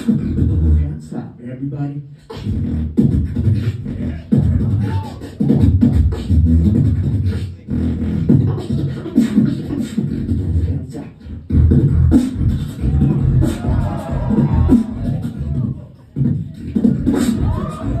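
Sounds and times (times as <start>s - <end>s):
amplified beatboxing: 0.0s - 18.0s.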